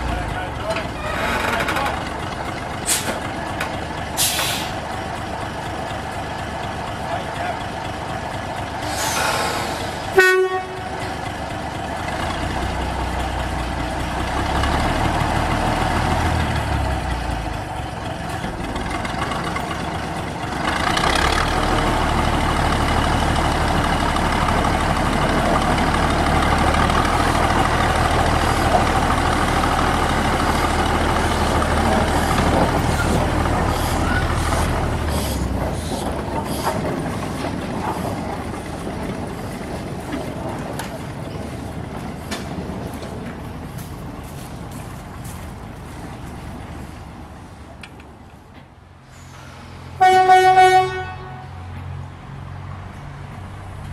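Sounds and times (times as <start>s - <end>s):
diesel locomotive engine: 0.0s - 53.9s.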